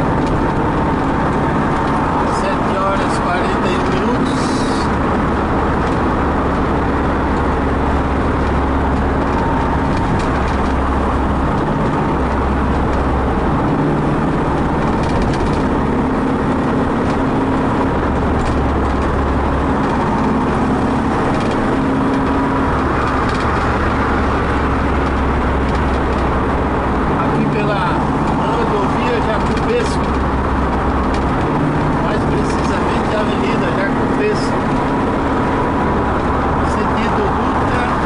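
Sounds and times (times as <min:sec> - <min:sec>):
low engine hum: 0:00.0 - 0:38.0
road and wind noise: 0:00.0 - 0:38.0.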